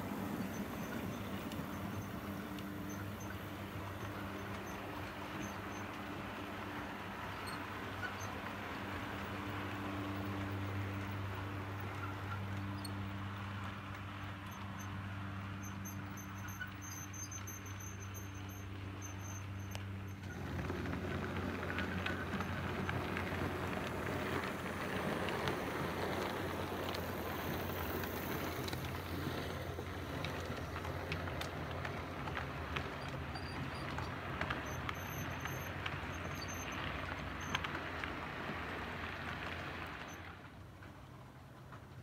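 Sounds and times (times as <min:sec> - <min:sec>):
model train wheels rattling on track: 0:00.0 - 0:42.0.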